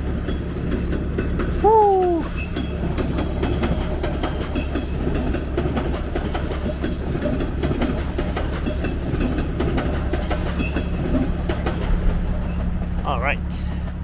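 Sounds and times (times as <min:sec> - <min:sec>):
subway train wheels clattering: 0:00.0 - 0:14.0.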